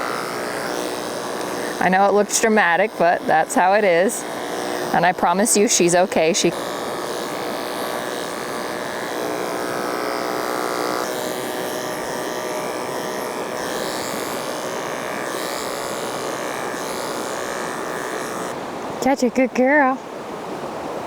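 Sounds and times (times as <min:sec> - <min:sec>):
electric clippers running: 0:00.0 - 0:18.9.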